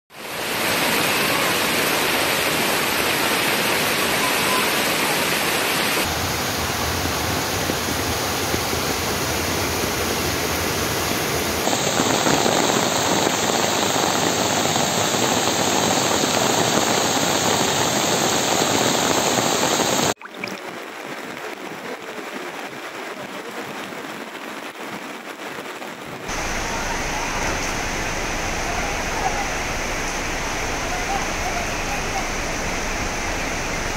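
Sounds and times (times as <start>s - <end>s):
floodwater rushing: 0.1s - 33.9s.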